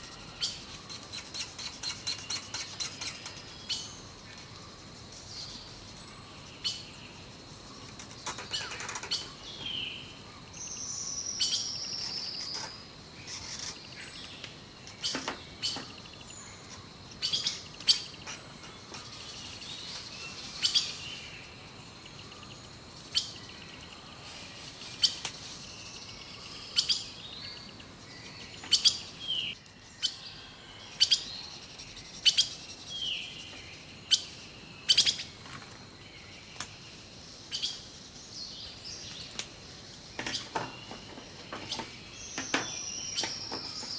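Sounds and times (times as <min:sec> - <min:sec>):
birds chirping and calling: 0:00.0 - 0:43.9.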